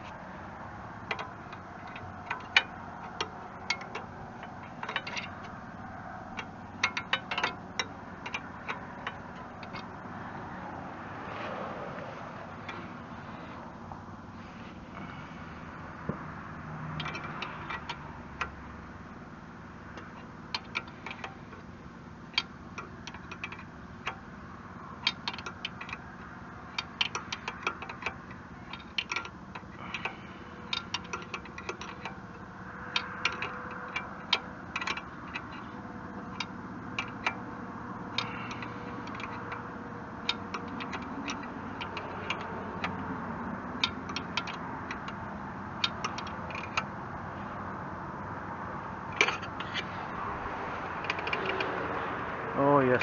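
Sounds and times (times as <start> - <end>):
steady background noise: 0.0 - 53.0
metallic clicks and taps of tools: 1.0 - 13.0, 15.0 - 18.6, 19.9 - 21.6, 22.3 - 24.2, 25.0 - 47.6, 48.4 - 52.2.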